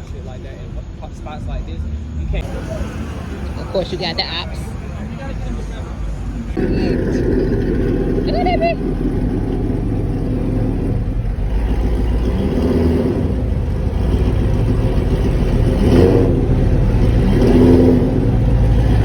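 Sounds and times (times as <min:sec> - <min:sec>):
car engine running and revving: 0:00.0 - 0:19.0.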